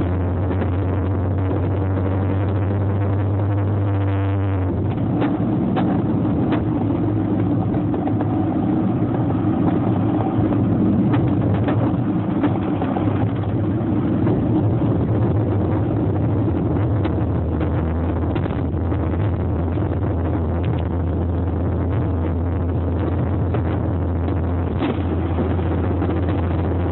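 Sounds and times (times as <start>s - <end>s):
road noise: 0.0s - 26.9s
vehicle engine droning: 0.0s - 26.9s.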